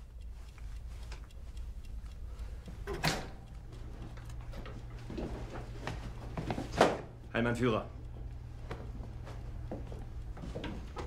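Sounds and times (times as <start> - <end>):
faint ticking: 0.0 - 11.0
low hum of room tone: 0.0 - 11.0.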